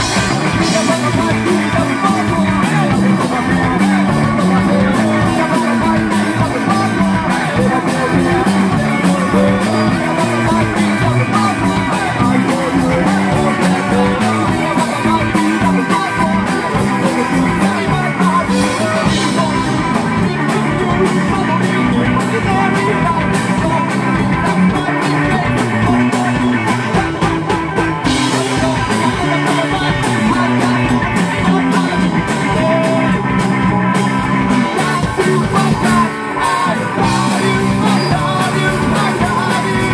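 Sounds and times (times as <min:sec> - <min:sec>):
drums: 0:00.0 - 0:39.9
electric bass: 0:00.0 - 0:39.9
person singing: 0:00.0 - 0:39.9.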